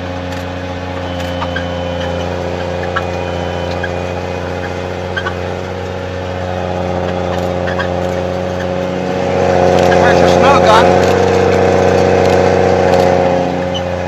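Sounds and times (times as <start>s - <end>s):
engine running heard from cab: 0.0s - 14.0s.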